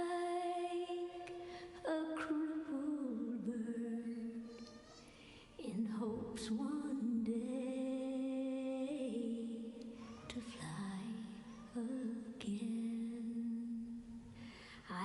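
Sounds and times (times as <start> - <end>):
woman singing slow ballad: 0.0 - 4.4, 5.6 - 14.0, 14.7 - 15.0.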